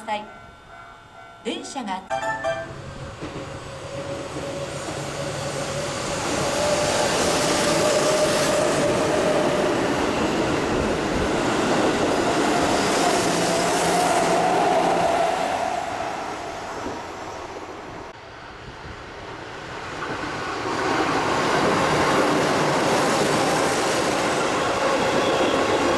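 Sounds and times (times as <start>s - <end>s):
train passing at speed: 2.1s - 25.9s.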